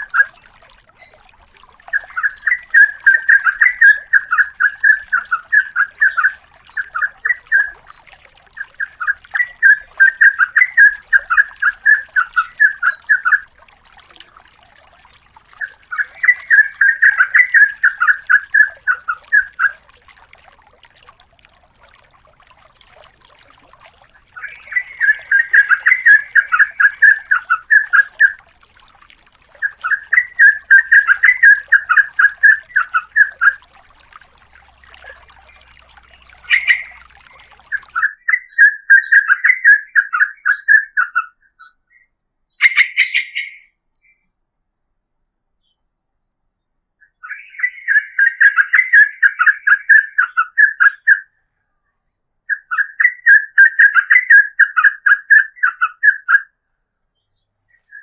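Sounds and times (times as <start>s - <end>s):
bird singing bubbling trills: 0.0s - 44.3s, 47.0s - 51.8s, 52.4s - 58.0s.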